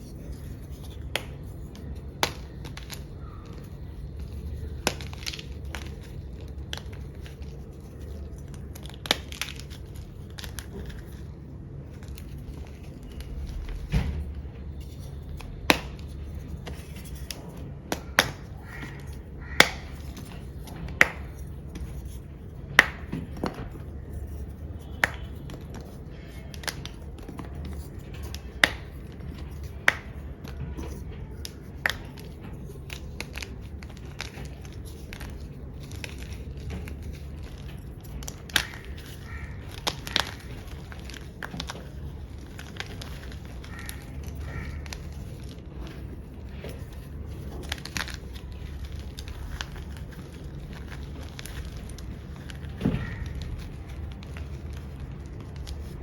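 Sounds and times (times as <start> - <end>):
chalk cracking and crunching: 0.0 - 56.0.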